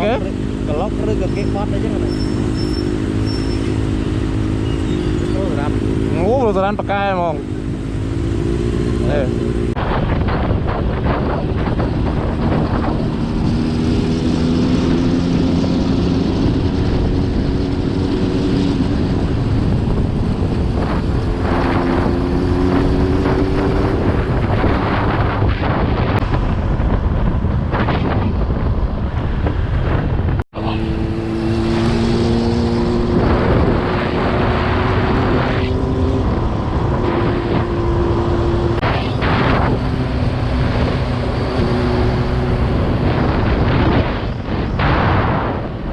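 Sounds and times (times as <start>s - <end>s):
wind noise on microphone: 0.0s - 45.9s.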